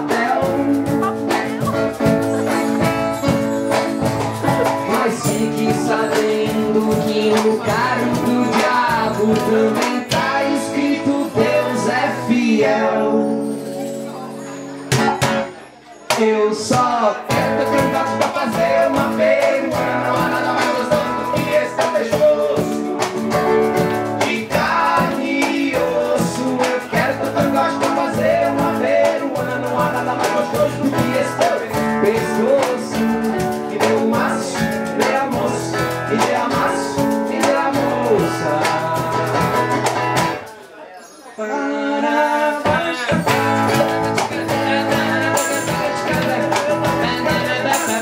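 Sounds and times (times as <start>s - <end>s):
acoustic guitar strumming: 0.0s - 40.6s, 42.3s - 48.0s
hand percussion beat: 0.0s - 40.7s, 42.5s - 48.0s.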